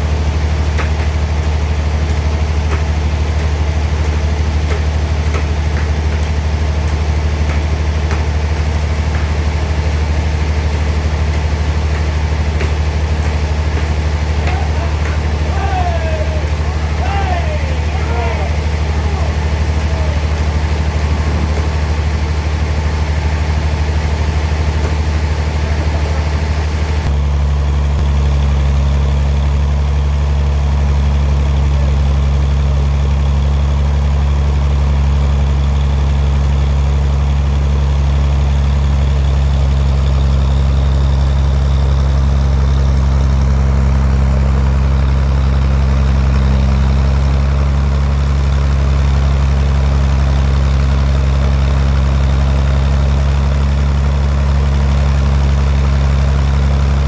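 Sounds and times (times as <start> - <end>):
bandsaw machinery drone: 0.0 - 57.0.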